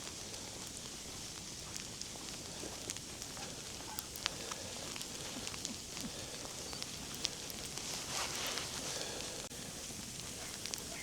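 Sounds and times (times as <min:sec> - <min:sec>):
footsteps crunching in snow: 0:00.0 - 0:09.4
soft hiss: 0:00.0 - 0:11.0.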